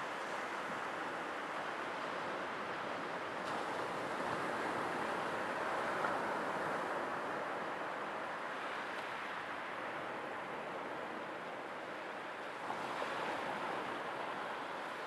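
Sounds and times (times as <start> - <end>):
sea waves on shore: 0.0 - 15.0.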